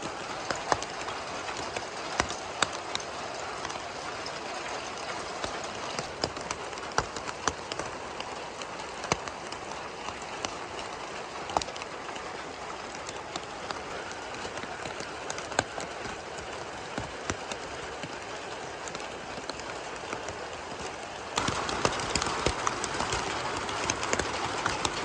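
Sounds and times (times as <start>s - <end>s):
hailstones ticking on ground: 0.0s - 25.0s
rain falling: 0.0s - 25.0s.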